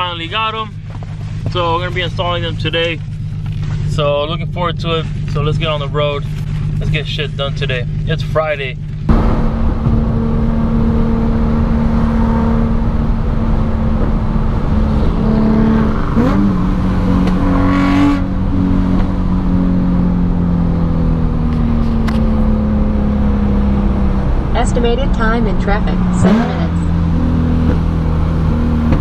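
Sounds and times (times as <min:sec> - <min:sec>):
car engine drone: 0:00.0 - 0:29.0
road noise: 0:00.0 - 0:29.0.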